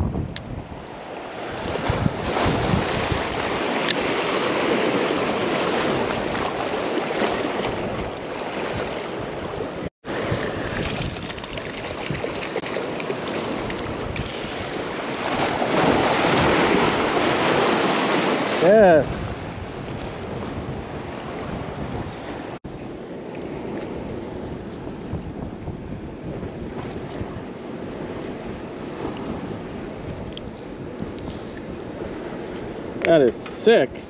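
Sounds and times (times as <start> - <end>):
wind buffeting microphone: 0.0 - 33.1
surf against rocky shoreline: 0.0 - 34.0.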